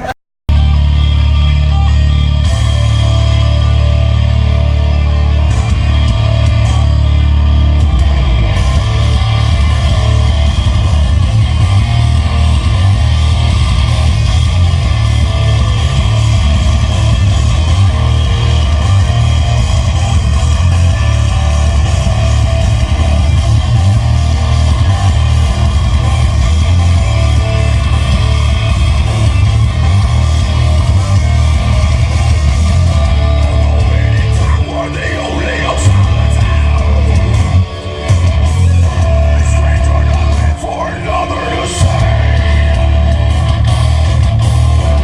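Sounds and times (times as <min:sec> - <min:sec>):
loud guitar music with heavy bass: 0:00.0 - 0:45.0.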